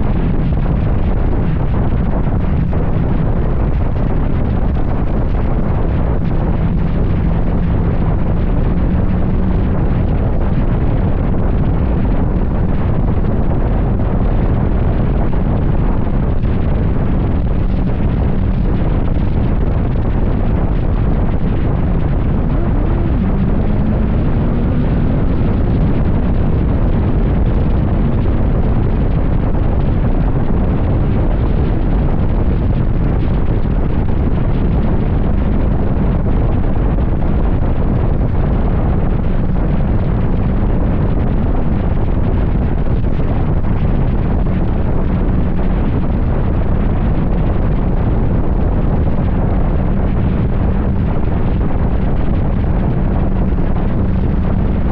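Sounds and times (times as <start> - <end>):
motorcycle engine drone: 0.0 - 54.9
wind buffeting microphone: 0.0 - 54.9.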